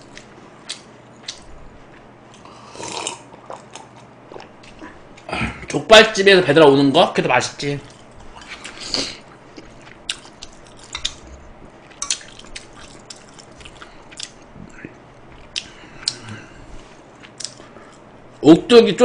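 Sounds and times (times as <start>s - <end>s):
man chewing with mouth smacks: 0.0s - 5.3s, 7.8s - 18.4s.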